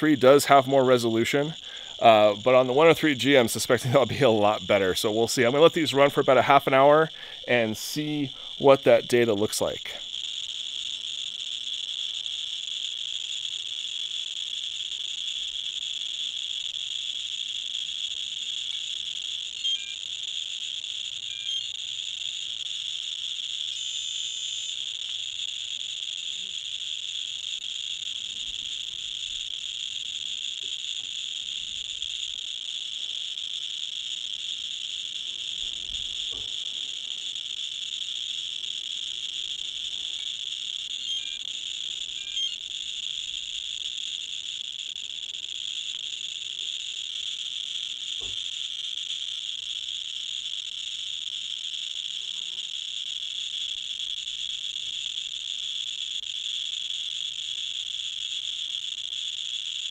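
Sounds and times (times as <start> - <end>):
radiation detector clicks buzzing: 0.0 - 59.9.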